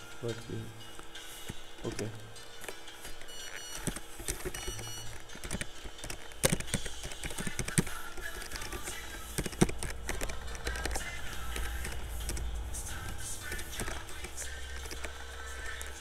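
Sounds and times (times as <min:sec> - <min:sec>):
keyboard keystroke clicks: 0:03.2 - 0:16.0.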